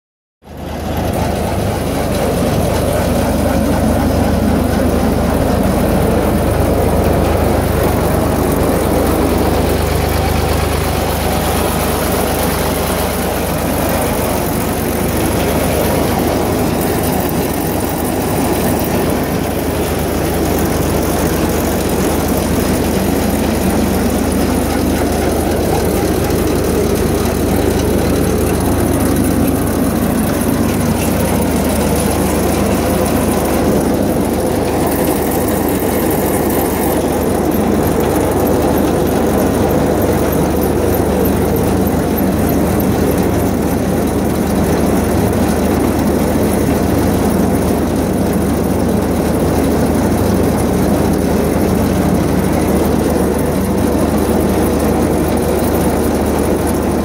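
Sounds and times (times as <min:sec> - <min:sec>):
tractor engine running: 0:00.4 - 0:57.0.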